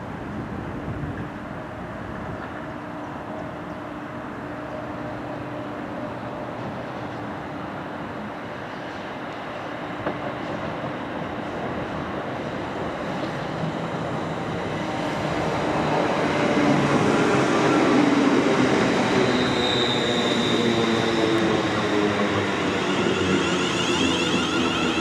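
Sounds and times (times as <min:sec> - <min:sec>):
train wheels and running gear: 0:02.3 - 0:25.0.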